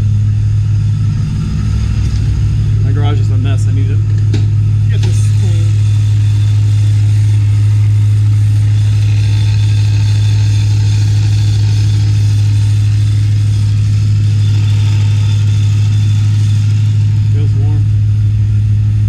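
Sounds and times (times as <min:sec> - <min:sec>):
car engine idling: 0:00.0 - 0:19.0
faint high whine: 0:00.0 - 0:19.0.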